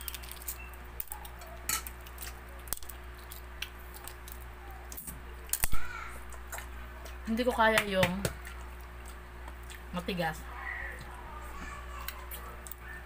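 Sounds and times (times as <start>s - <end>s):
small eating clicks: 0.0s - 10.2s, 10.8s - 13.0s
steady low hum: 0.0s - 13.0s.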